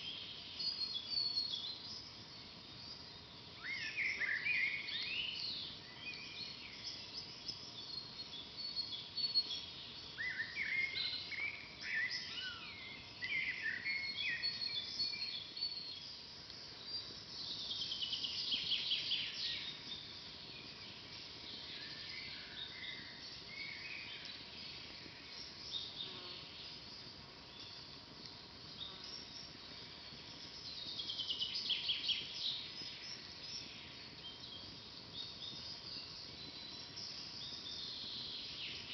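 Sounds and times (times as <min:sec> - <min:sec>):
faint background hiss: 0:00.0 - 0:38.9
songbirds chirping: 0:00.0 - 0:38.9.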